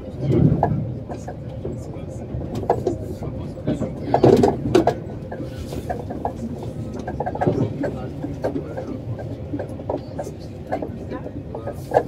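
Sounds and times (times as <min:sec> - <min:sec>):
train rumbling: 0:00.0 - 0:12.0
train wheels and carriage rattling: 0:00.0 - 0:12.0.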